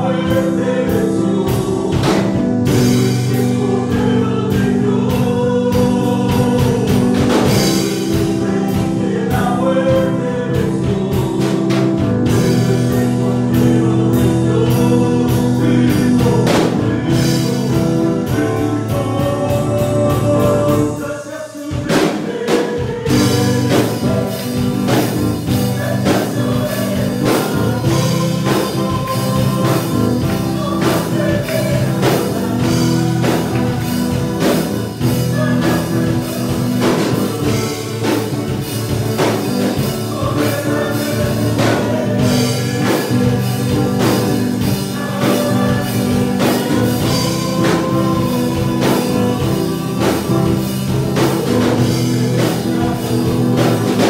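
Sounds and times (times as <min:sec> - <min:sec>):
group singing worship song: 0:00.0 - 0:54.0
instrumental accompaniment: 0:00.0 - 0:54.0
steady drum beat: 0:00.0 - 0:54.0.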